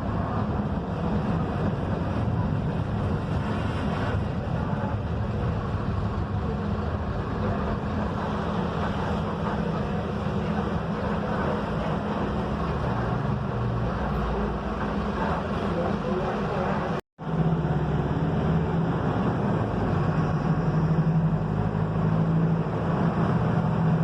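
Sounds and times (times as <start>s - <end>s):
bus diesel engine humming: 0.0s - 24.0s
road and wind noise: 0.0s - 24.0s.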